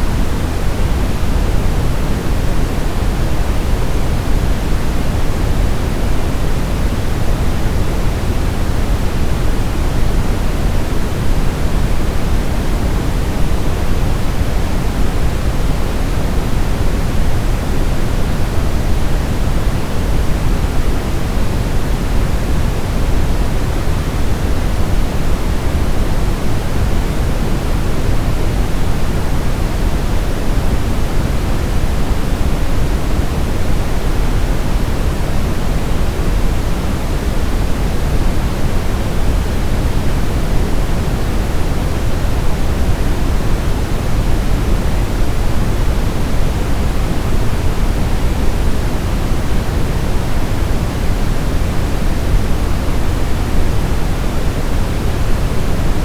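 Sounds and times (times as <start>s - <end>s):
deep low hiss noise: 0.0s - 56.0s.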